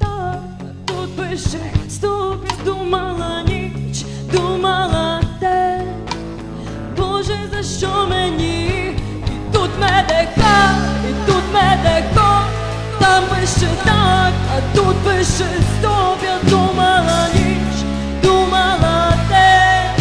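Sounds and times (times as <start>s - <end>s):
instrumental pop music: 0.0s - 20.0s.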